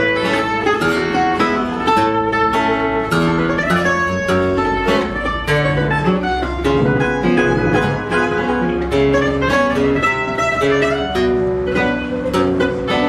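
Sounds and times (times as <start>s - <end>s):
guitar bass notes and chords: 0.0s - 13.0s
plucked guitar melody: 0.0s - 13.0s.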